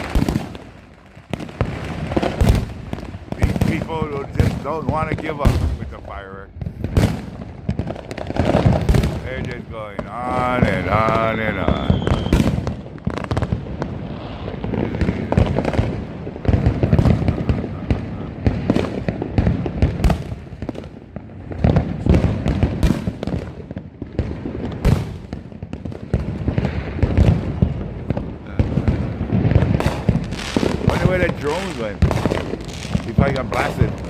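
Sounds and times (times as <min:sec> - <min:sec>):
firecracker pops and crackles: 0:00.0 - 0:34.0
fireworks booming: 0:00.0 - 0:34.0.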